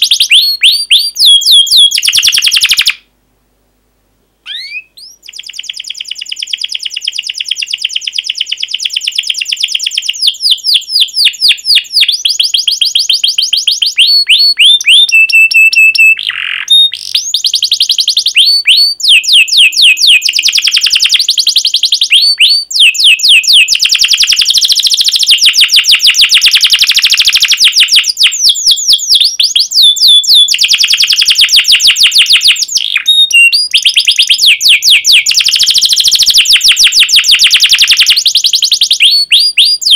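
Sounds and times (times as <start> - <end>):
canary singing trills: 0.0 - 3.1, 4.4 - 39.9.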